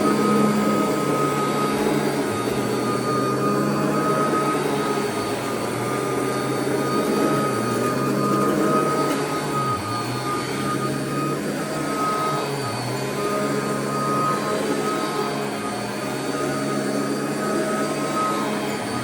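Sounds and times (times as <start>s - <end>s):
vacuum cleaner running over carpet: 0.0s - 19.0s.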